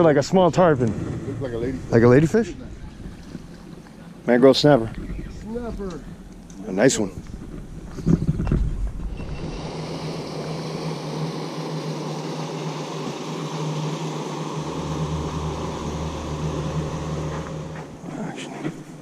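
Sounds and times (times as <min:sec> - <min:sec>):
deep rumble: 0:00.0 - 0:18.4
boat motor humming: 0:00.0 - 0:19.0.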